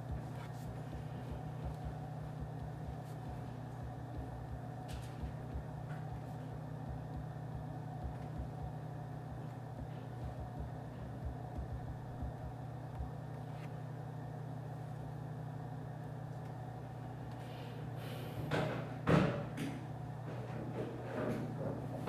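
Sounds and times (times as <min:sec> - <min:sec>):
office room hum: 0:00.0 - 0:22.0.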